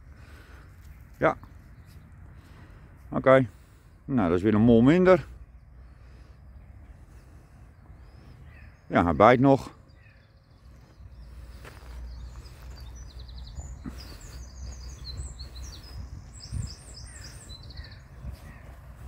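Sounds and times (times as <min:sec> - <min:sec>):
small birds chirping and trilling: 0:00.0 - 0:19.0.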